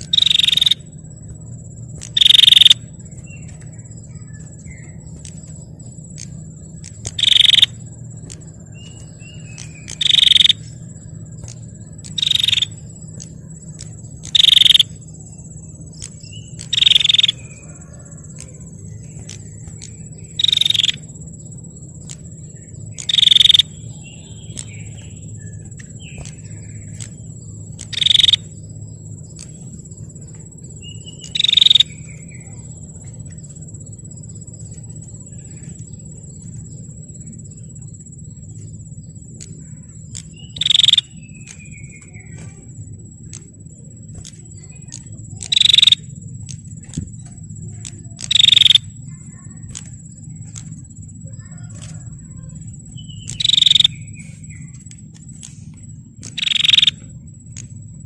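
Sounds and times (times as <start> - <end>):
bird buzzy rattling calls: 0.0 - 58.0
low hum: 0.0 - 58.0
steady high whine: 0.0 - 58.0.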